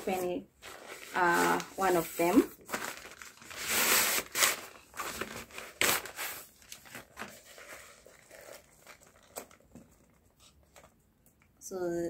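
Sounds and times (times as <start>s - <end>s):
fabric bag rustling and crinkling: 0.0s - 10.1s.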